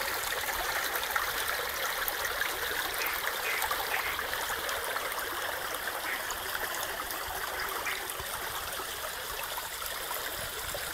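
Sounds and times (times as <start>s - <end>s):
stream rushing and babbling: 0.0s - 10.9s.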